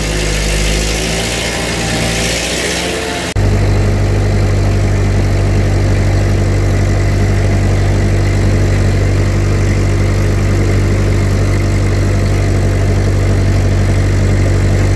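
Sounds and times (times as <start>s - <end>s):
tractor engine running steadily: 0.0s - 14.9s.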